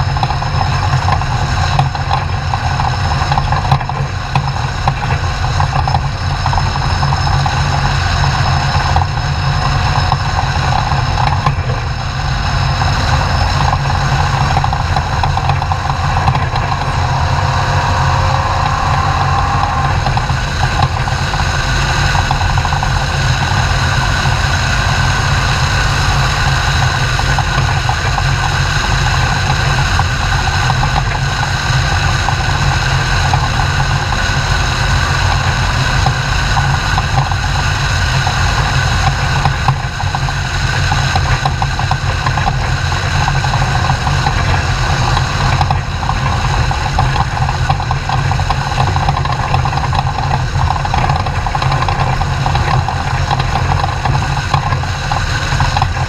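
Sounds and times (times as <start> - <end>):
race truck engine running: 0.0 - 56.0.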